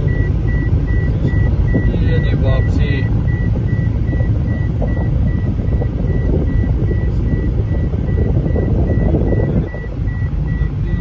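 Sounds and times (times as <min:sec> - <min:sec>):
high electronic beep: 0:00.0 - 0:11.0
tyres and engine rumble: 0:00.0 - 0:11.0.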